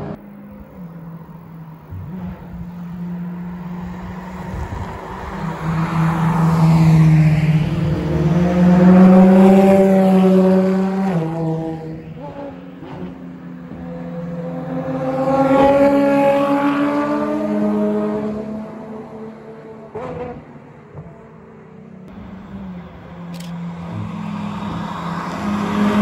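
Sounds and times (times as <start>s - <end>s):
sports car engine passing by: 0.0s - 26.0s.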